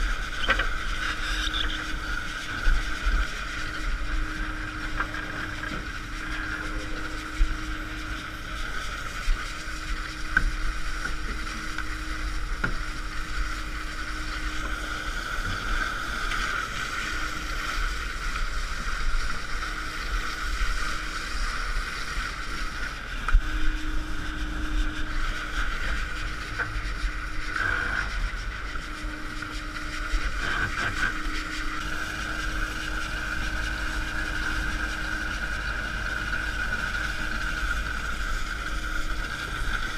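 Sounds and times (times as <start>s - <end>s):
boat engine drone: 0.0s - 39.9s
low hum: 0.0s - 39.9s.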